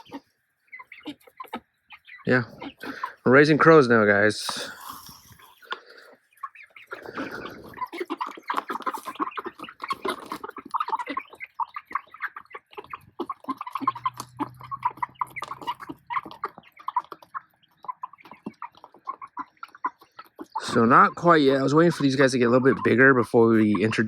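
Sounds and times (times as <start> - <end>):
chickens clucking and chirping: 0.0 - 24.0.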